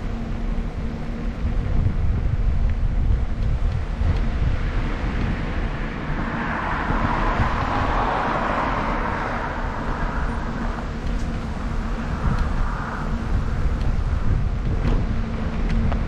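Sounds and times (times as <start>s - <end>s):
passing vehicle tyre noise: 0.0s - 16.0s
wind rumbling on microphone: 0.0s - 16.0s.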